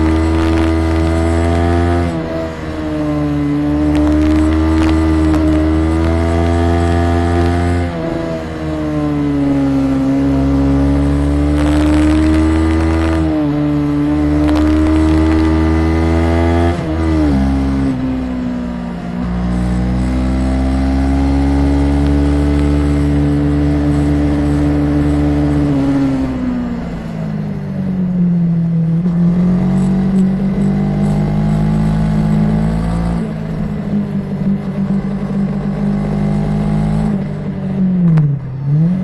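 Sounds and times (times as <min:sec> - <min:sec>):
motorcycle engine under way: 0:00.0 - 0:39.0.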